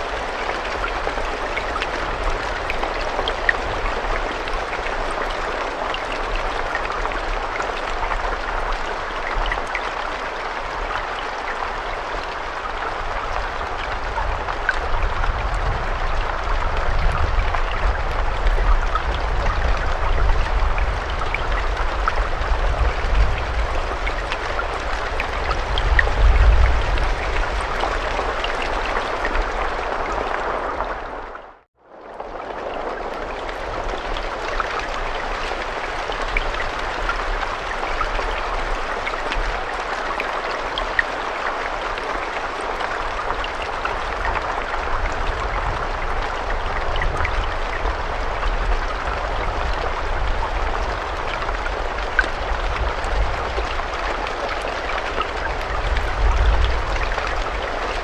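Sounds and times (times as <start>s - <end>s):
raindrops ticking: 0.0s - 58.0s
steady rain hissing: 0.0s - 58.0s.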